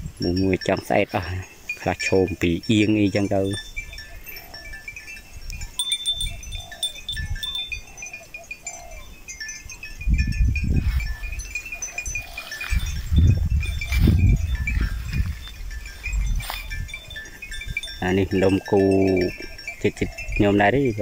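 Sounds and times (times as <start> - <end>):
cattle bells clinking: 0.0 - 21.0.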